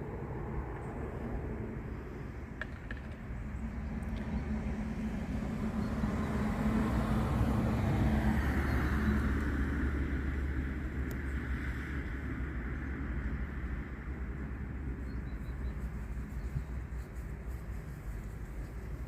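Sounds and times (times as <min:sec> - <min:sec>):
vehicle passing with low rumble: 0:00.0 - 0:19.0.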